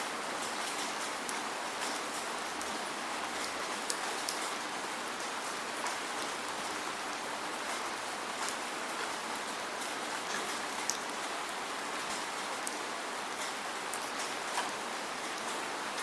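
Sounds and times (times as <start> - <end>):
steady rain hiss: 0.0 - 16.0
raindrops ticking: 0.4 - 8.6, 9.3 - 16.0.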